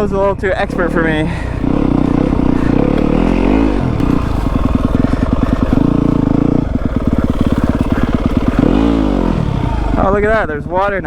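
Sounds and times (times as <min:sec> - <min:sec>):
motorcycle engine chugging: 0:00.0 - 0:11.0.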